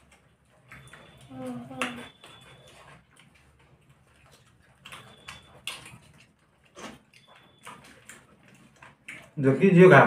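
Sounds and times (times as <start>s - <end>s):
chewing and mouth noises: 0.0s - 10.0s.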